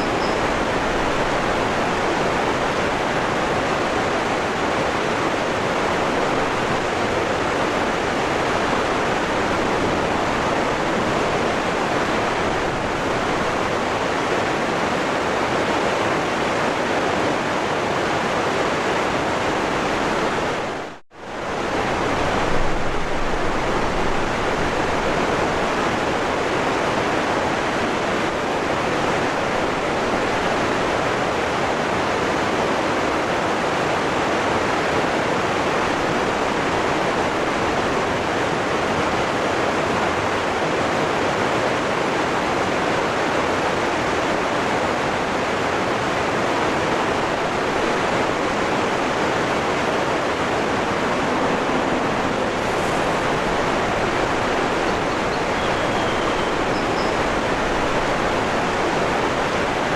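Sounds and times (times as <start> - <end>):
waterfall roar: 0.0 - 59.9.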